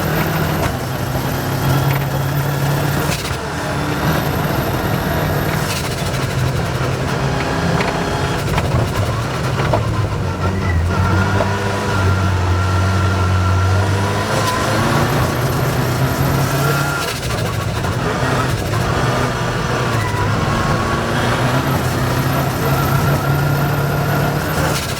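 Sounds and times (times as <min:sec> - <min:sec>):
rally car engine revving: 0:00.0 - 0:24.9
tyre and road noise: 0:00.0 - 0:24.9.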